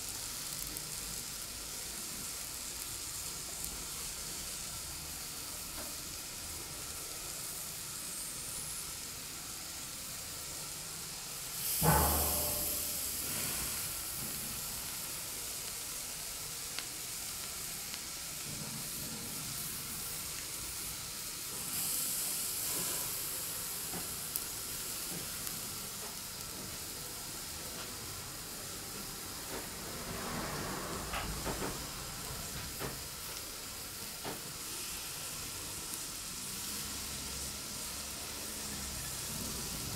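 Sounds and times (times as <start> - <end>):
chestnuts sizzling on a grill: 0.0 - 39.9
steam hissing: 0.0 - 39.9.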